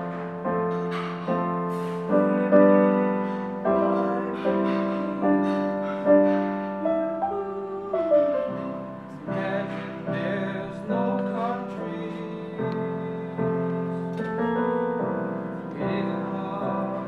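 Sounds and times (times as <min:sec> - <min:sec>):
digital piano playing slow chords: 0:00.0 - 0:17.0.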